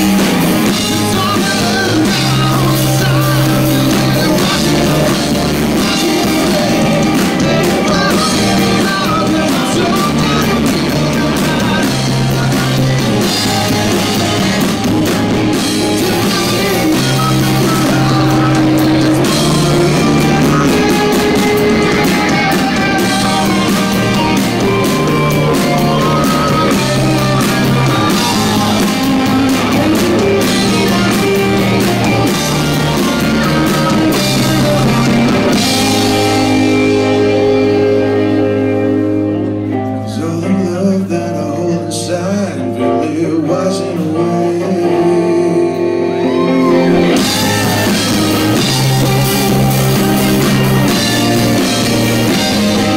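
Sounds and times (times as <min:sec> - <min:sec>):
man singing: 0:00.0 - 0:38.8, 0:39.9 - 0:52.9
bass guitar: 0:00.0 - 0:52.9
drums: 0:00.0 - 0:52.9
electric guitar: 0:00.0 - 0:52.9.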